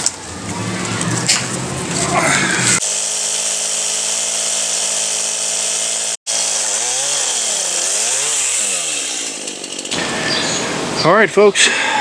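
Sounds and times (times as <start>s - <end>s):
chainsaw revving and cutting wood: 0.0s - 10.8s.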